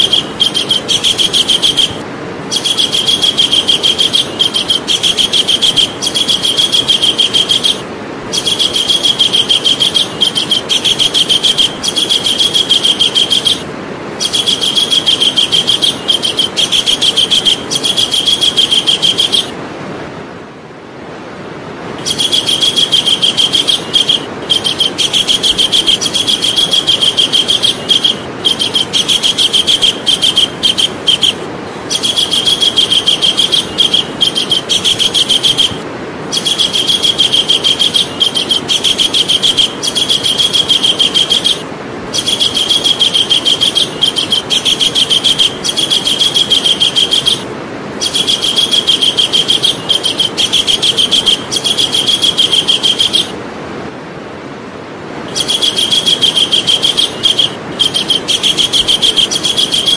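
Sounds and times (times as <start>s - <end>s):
kingfisher calling: 0.0s - 19.6s, 22.0s - 53.4s, 55.3s - 59.9s.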